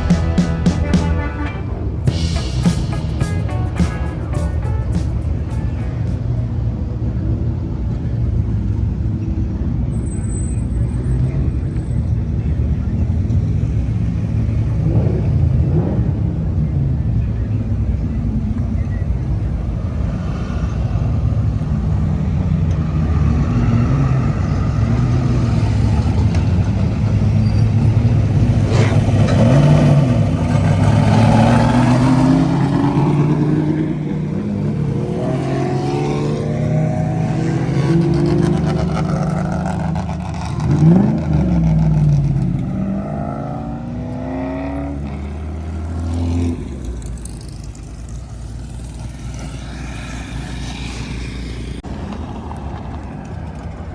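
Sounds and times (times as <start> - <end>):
car engines revving past: 10.5 - 53.9.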